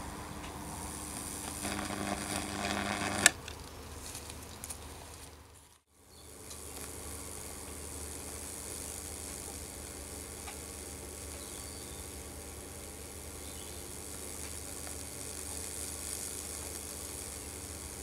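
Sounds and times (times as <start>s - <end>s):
sharp loud electric arc snap: 0.0s - 3.4s, 6.3s - 18.0s
electrical buzzing crackle: 0.0s - 18.0s
steady electrical hum: 0.0s - 18.0s.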